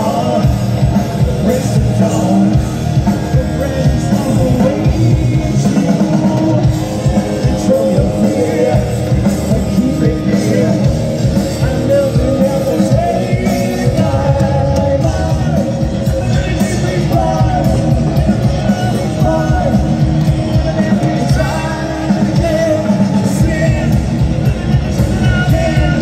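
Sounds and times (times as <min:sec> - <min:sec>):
bass and drums: 0:00.0 - 0:26.0
distorted electric guitars: 0:00.0 - 0:26.0
person singing: 0:00.0 - 0:26.0.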